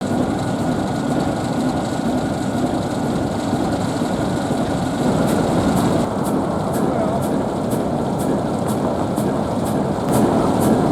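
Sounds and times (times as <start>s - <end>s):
diesel locomotive idling: 0.0s - 10.9s.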